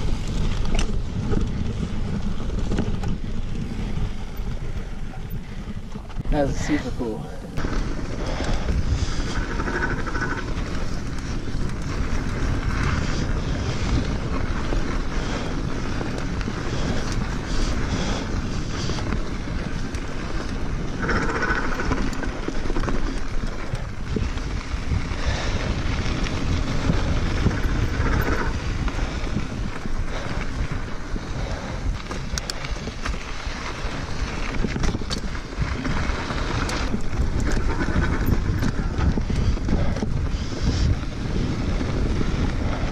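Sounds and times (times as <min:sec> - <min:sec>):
bike clicks and knocks: 0:00.0 - 0:06.2, 0:07.6 - 0:42.6
bike tyre noise on dirt: 0:00.0 - 0:42.9
wind on microphone: 0:00.0 - 0:42.9.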